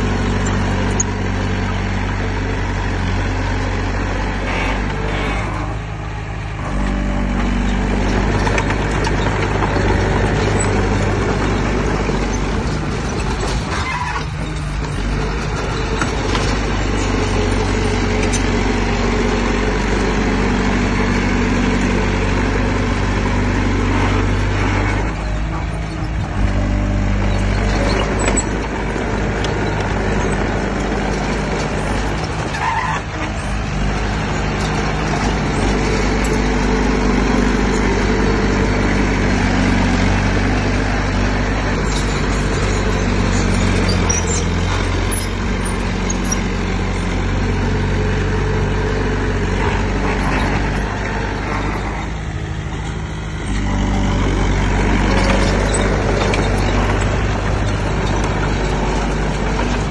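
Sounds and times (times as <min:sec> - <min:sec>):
heavy diesel engine of machinery: 0:00.0 - 0:59.9.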